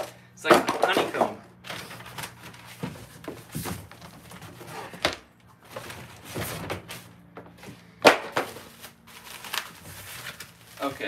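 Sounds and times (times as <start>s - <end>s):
cardboard scraping and rustling: 1.6s - 11.0s.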